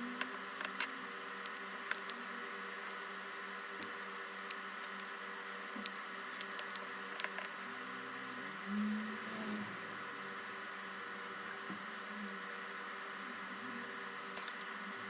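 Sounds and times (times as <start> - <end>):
low electrical hum: 0.0 - 15.0
steady hiss: 0.0 - 15.0.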